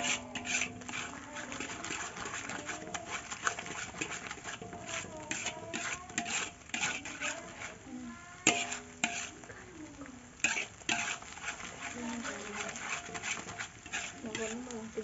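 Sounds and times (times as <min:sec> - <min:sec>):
metal spatula scraping a wok: 0:00.0 - 0:15.0.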